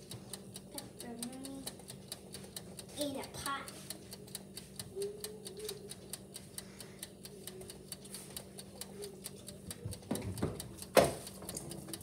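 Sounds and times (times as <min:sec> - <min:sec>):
rapid mechanical ticking: 0:00.0 - 0:12.0.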